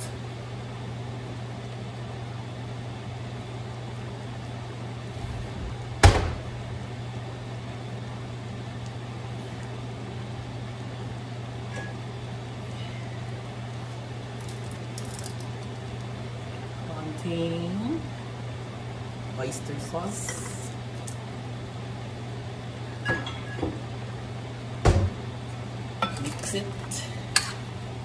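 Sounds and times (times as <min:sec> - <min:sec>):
kitchen appliance humming: 0:00.0 - 0:28.0.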